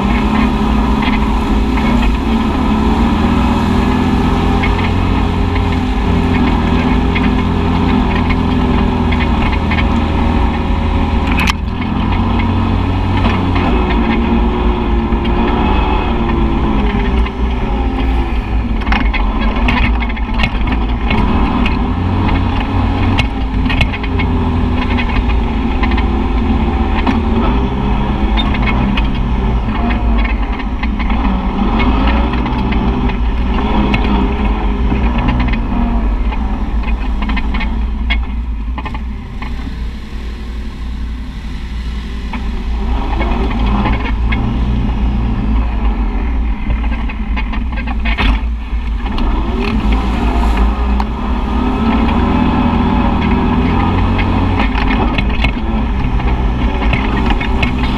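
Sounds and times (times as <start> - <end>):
utility vehicle engine running: 0.0 - 57.9.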